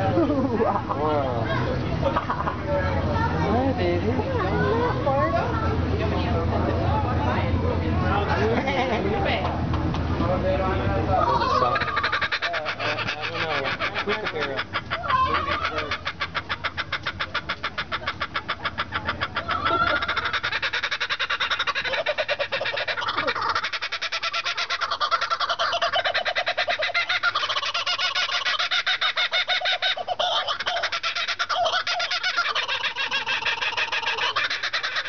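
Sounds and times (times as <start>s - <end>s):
kookaburras laughing: 0.0s - 3.9s, 8.2s - 9.4s, 11.1s - 35.0s.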